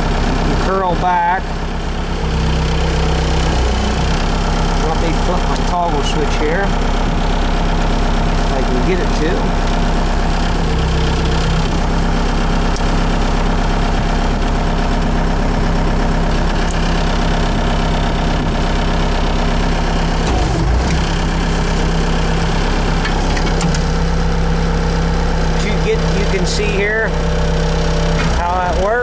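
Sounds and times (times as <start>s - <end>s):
hydraulics working: 0.0s - 29.0s
loader engine running: 0.0s - 29.0s.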